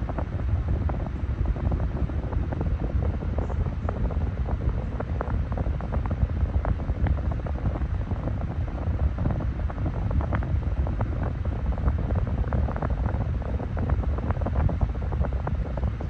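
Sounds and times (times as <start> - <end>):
desk fan running: 0.0 - 16.0
wind buffeting microphone: 0.0 - 16.0.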